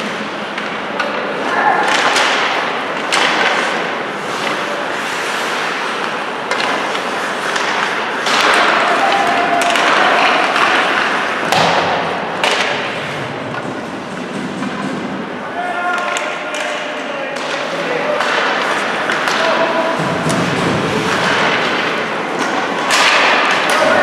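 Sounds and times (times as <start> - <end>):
skates scraping on ice: 0.0 - 24.0
steady arena noise: 0.0 - 24.0
puck and sticks knocking: 0.5 - 4.7, 5.9 - 24.0.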